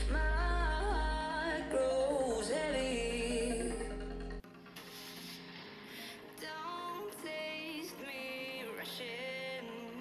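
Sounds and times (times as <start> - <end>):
music through small speaker: 0.0 - 10.0.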